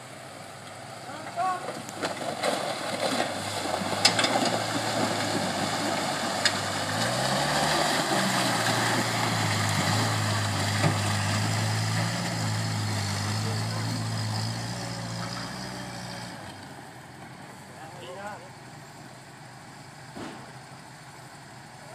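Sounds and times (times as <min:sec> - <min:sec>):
truck engine pulling under load: 0:00.0 - 0:21.8.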